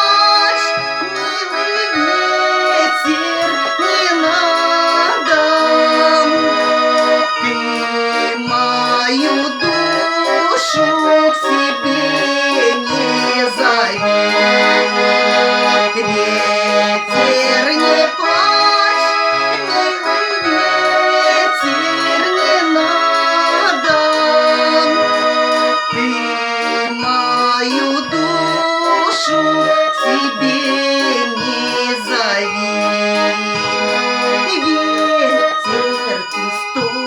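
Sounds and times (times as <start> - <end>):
button accordion playing: 0.0 - 37.0.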